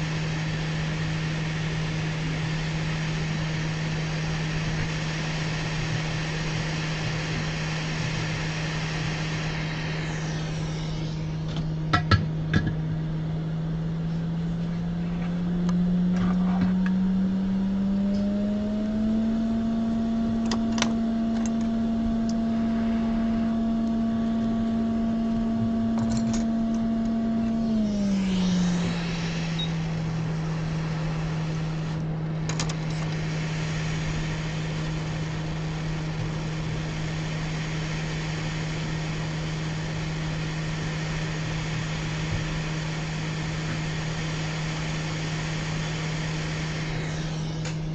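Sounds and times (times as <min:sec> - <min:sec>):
hot air blower humming: 0:00.0 - 0:47.9.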